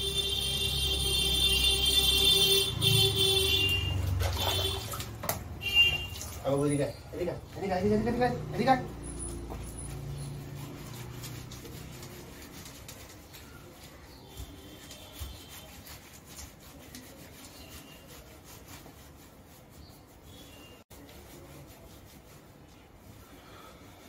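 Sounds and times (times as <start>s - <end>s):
hands rubbing wet dog's coat: 0.4s - 23.2s.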